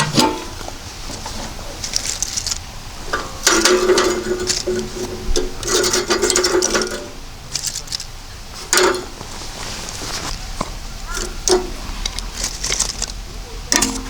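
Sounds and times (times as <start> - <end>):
squeaky scraping rubbing: 0.0 - 14.0.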